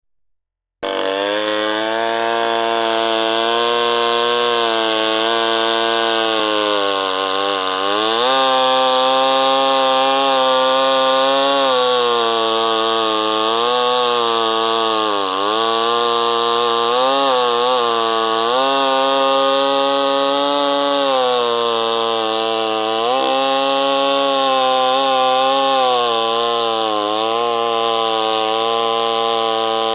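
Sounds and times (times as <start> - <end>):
chainsaw cutting wood: 0.8 - 29.9.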